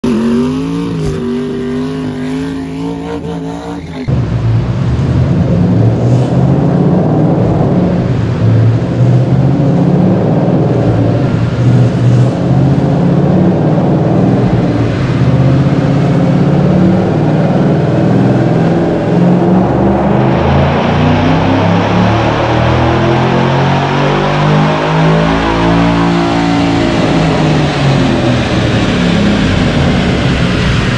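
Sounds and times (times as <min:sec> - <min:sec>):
car engine running loud: 0:00.0 - 0:30.9.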